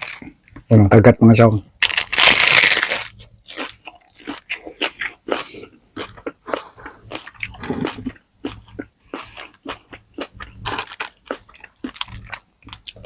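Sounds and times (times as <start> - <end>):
crunchy chewing: 1.8 - 13.0.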